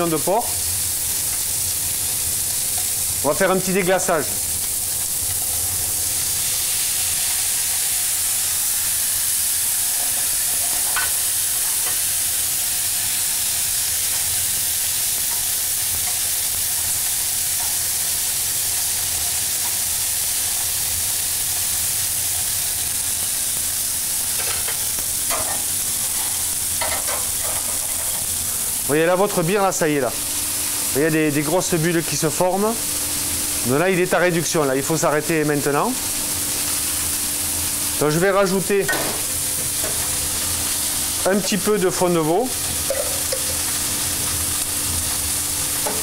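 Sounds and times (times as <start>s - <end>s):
meat sizzling in a frying pan: 0.0s - 46.0s.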